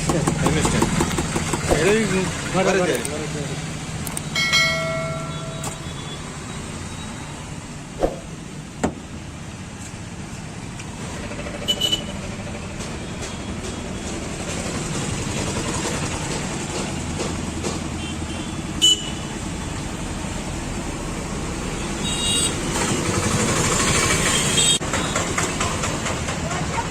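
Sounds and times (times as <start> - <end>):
street traffic: 0.0 - 26.9.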